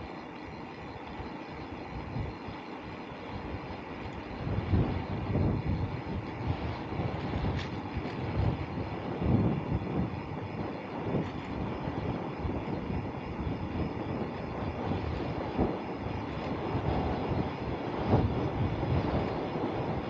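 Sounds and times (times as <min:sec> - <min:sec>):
bicycle tyres rolling: 0:00.0 - 0:20.0
wind buffeting microphone: 0:01.1 - 0:20.0.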